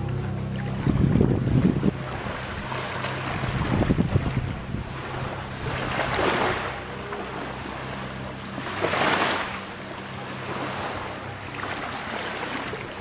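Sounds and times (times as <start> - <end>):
low steady hum: 0.0 - 13.0
rushing surf-like noise: 0.0 - 13.0.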